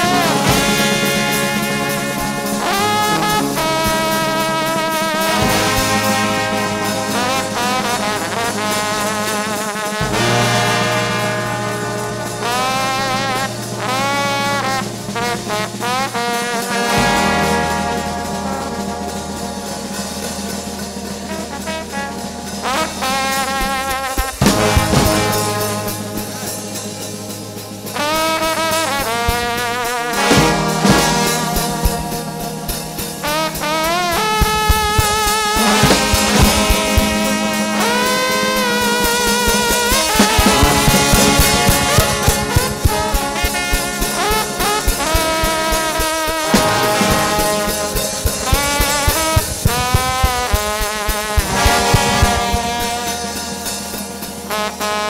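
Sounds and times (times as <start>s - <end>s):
drum hits: 0.0s - 16.2s, 16.9s - 54.7s
trombone band playing gospel: 0.0s - 55.0s.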